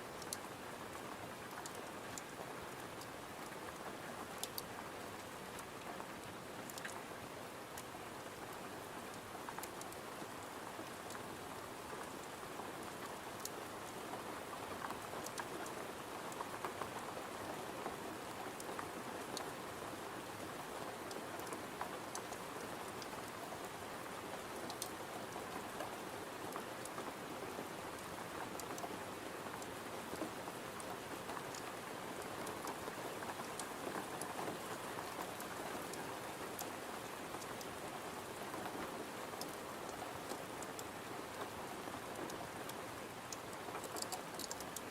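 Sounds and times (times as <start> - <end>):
steady rain on a window: 0.0 - 44.9.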